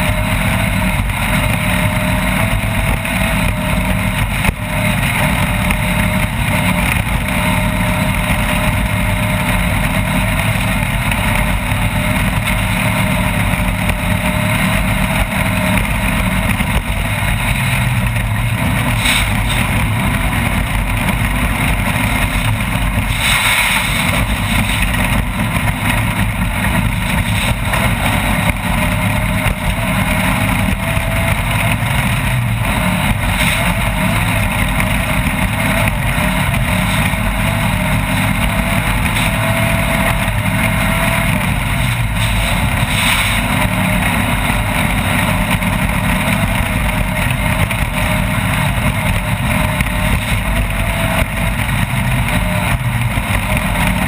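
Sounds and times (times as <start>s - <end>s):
mechanical and road noise: 0.0s - 54.0s
race vehicle engine at speed: 0.0s - 54.0s.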